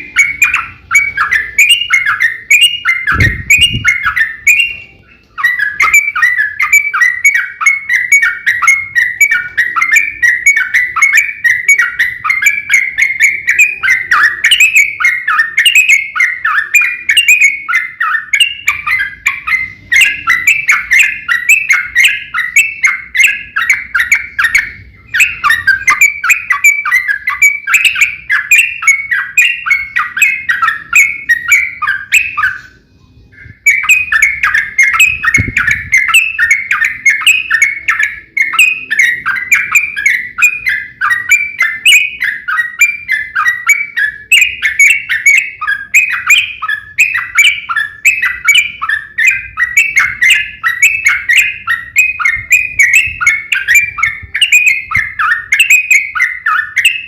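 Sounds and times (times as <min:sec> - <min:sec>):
bulbuls chattering song: 0:00.0 - 0:57.0.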